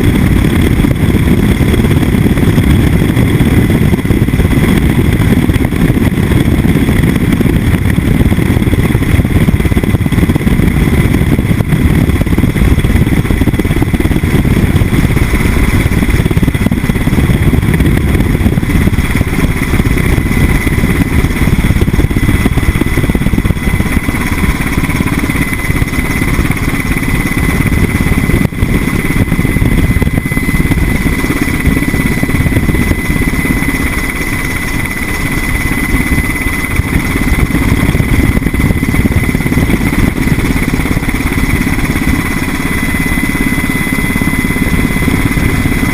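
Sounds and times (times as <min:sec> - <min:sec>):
helicopter rotor and engine rumble: 0:00.0 - 0:45.9.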